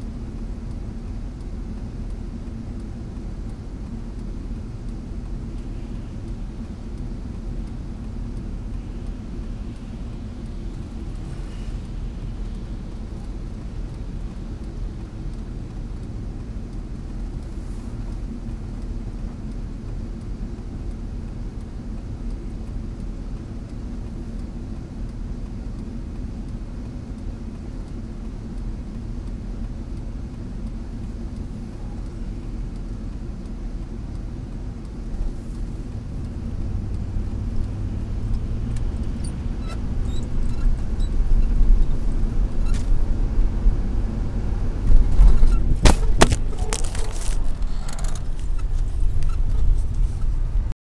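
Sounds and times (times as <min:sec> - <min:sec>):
car engine and tyres rumble: 0:00.0 - 0:50.8
faint ticks: 0:00.1 - 0:43.0.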